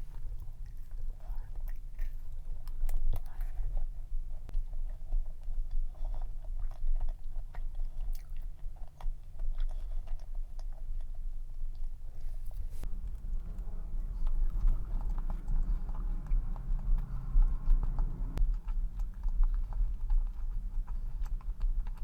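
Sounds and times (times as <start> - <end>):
person chewing cookie: 0.0 - 22.0.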